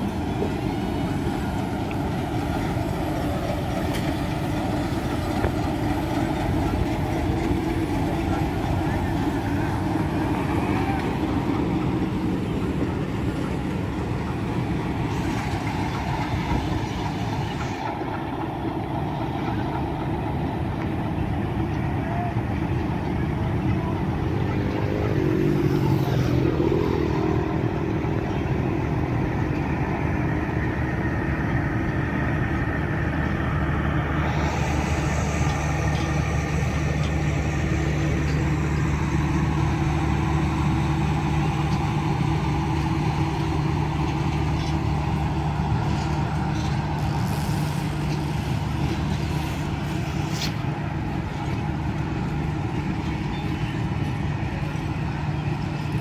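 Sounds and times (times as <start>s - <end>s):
diesel locomotive engine running: 0.0s - 56.0s
train wheels rumbling on rails: 0.0s - 56.0s
wheel and rail hiss: 0.0s - 56.0s.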